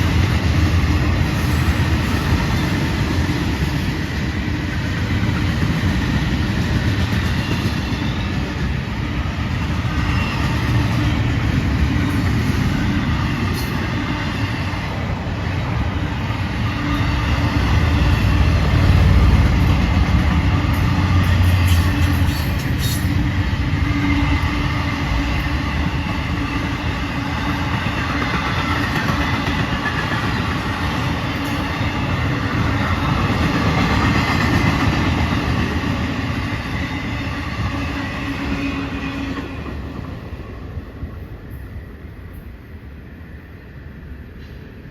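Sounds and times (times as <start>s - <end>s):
train wheels clicking: 0.0s - 40.4s
freight train wheels rumbling: 0.0s - 44.9s.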